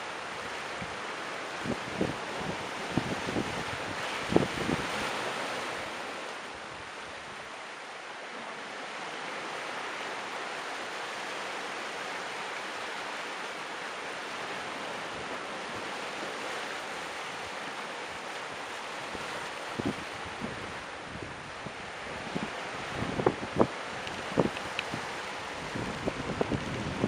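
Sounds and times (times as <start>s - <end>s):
sea surf washing over rocks: 0.0s - 27.0s.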